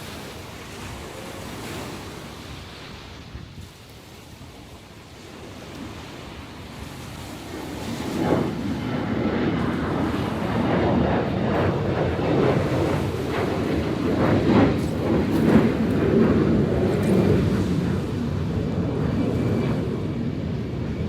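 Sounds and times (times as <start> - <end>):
heavy surf waves breaking: 0.0 - 21.0.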